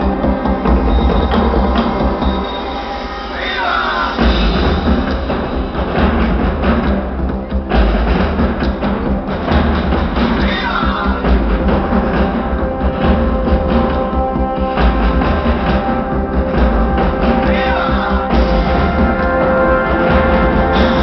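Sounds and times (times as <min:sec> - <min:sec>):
percussion-heavy music: 0:00.0 - 0:21.0.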